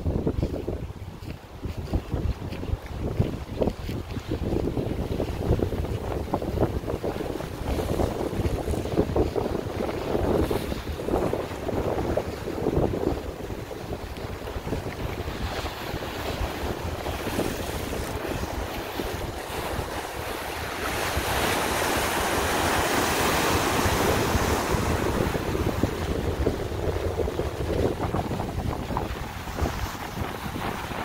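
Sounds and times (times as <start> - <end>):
ocean surf breaking on shore: 0.0 - 31.0
wind buffeting microphone: 0.0 - 31.0.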